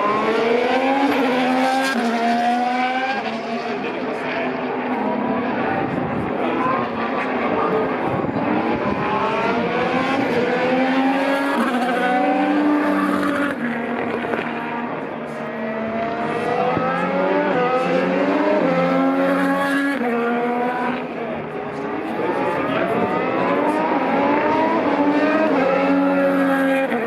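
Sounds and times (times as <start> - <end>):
racing car engines accelerating past: 0.0 - 27.0.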